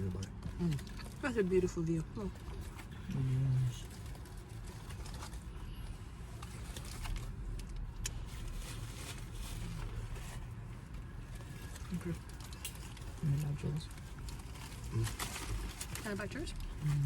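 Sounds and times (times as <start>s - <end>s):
food wrapper rustling: 0.2s - 17.0s.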